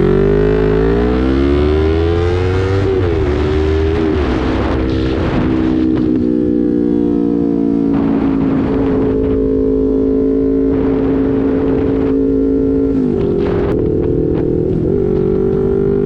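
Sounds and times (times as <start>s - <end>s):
motorcycle engine cruising: 0.0s - 16.0s
wind noise on microphone: 0.0s - 16.0s.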